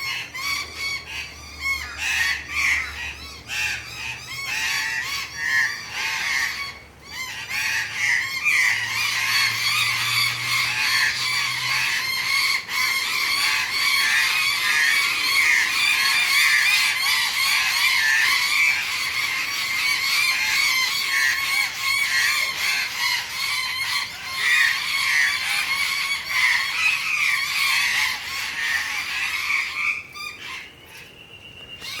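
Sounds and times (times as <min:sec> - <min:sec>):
birds giving harsh alarm calls: 0:00.0 - 0:32.0.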